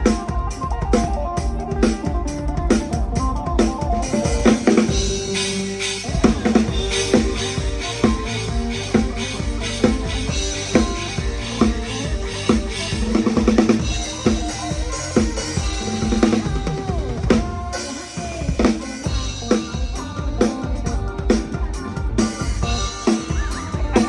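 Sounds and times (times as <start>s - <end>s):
band playing: 0.0s - 24.0s
drum kit playing driving beat: 0.0s - 24.0s.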